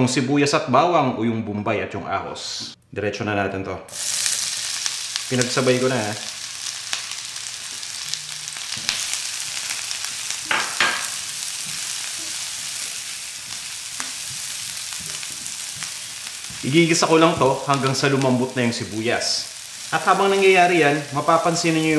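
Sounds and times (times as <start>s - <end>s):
onion and garlic sizzling: 3.9s - 21.9s.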